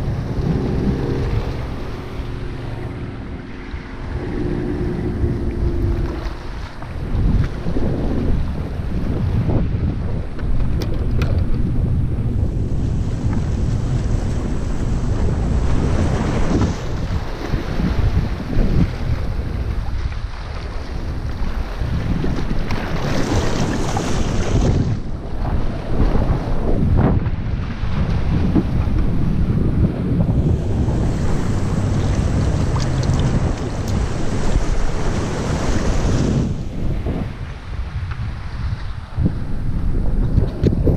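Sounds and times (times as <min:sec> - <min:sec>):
sea washing against rocks: 0:00.0 - 0:40.9
wind buffeting microphone: 0:00.0 - 0:40.9.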